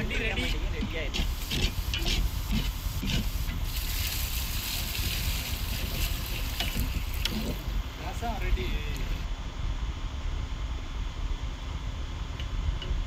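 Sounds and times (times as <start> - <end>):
steady hiss: 0.0 - 12.7.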